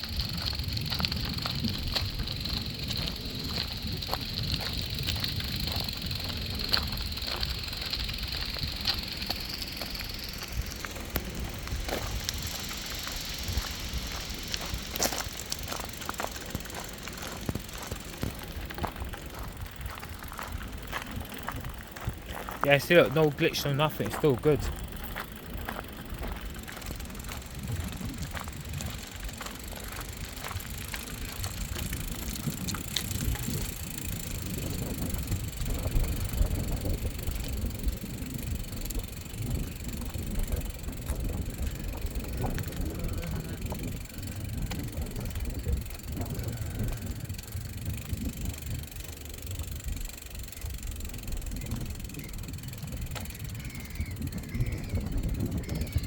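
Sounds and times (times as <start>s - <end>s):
faint ticks: 0.0s - 22.4s, 24.8s - 56.0s
wind buffeting microphone: 0.0s - 56.0s.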